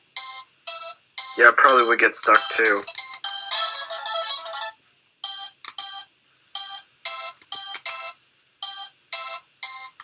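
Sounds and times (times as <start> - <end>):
electronic game beeping: 0.2 - 10.0.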